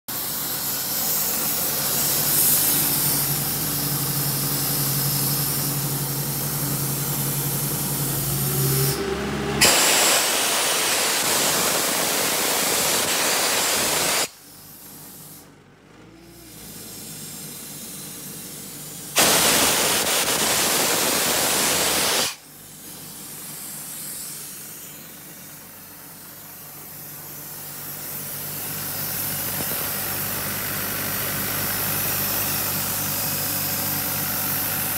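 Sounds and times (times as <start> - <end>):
compressed air hissing: 0.1 - 9.0, 9.6 - 15.5, 16.3 - 34.9
diesel engine running: 0.2 - 13.1, 14.4 - 19.9, 22.3 - 34.9.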